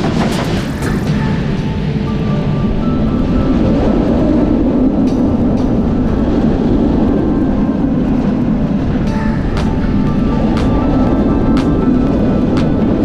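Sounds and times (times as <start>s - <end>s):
roller coaster rumble and rushing air: 0.0s - 13.0s.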